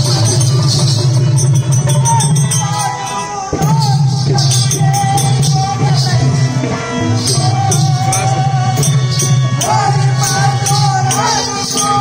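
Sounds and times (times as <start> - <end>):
metallic jingling beat: 0.0 - 12.0.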